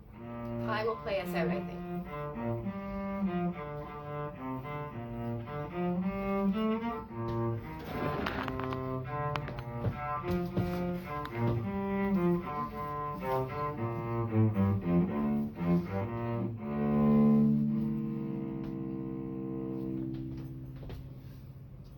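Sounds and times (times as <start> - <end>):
solo cello playing: 0.0 - 21.9.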